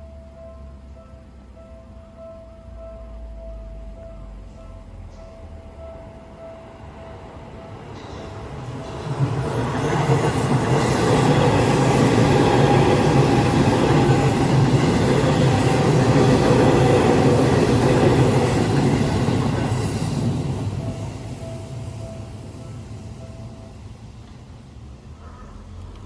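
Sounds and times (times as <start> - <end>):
level crossing warning bell: 0.0 - 24.1
electric train rumble: 0.0 - 26.0.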